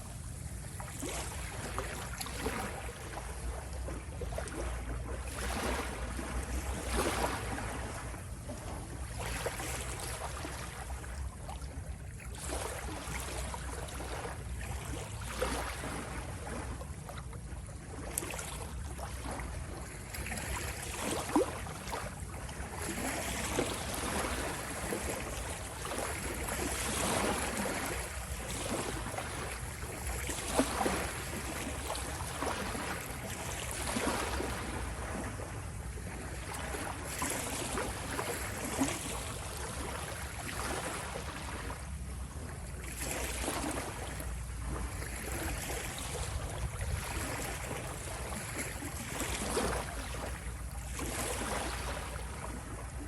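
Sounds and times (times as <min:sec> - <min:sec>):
waves splashing: 0:00.0 - 0:11.7, 0:12.3 - 0:16.8, 0:17.9 - 0:53.0.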